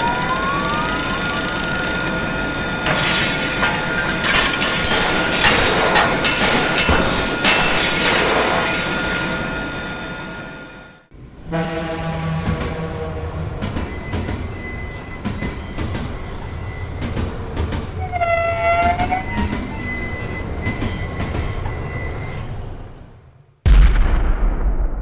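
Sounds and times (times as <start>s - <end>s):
train wheel squeal: 0.0s - 10.9s, 13.6s - 23.0s.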